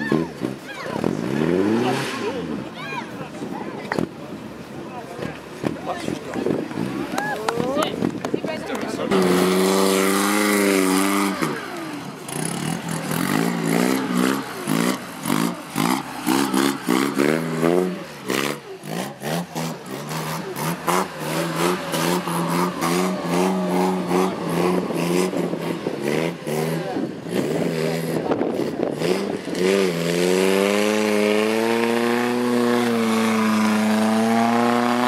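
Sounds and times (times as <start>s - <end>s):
car engine revving: 0.0s - 2.8s, 9.0s - 35.0s.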